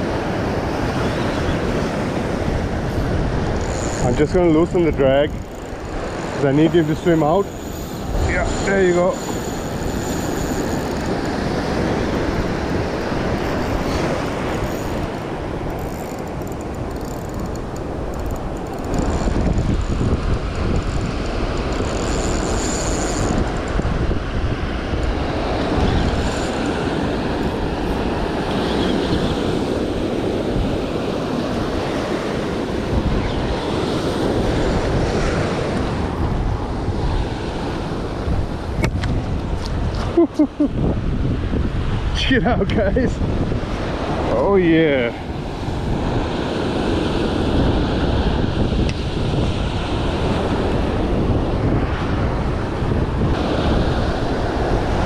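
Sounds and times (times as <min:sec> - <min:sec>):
surf washing against a seawall: 0:00.0 - 0:55.0
wind buffeting the microphone: 0:00.0 - 0:55.0.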